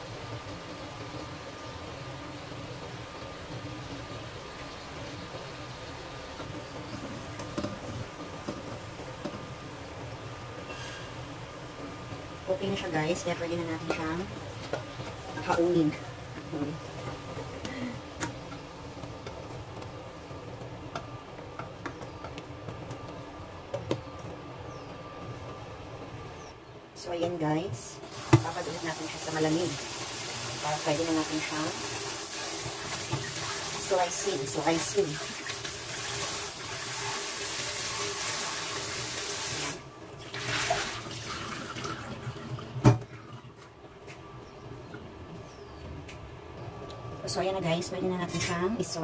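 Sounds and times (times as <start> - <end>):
water boiling in a pan: 0.0 - 24.2, 27.8 - 43.6.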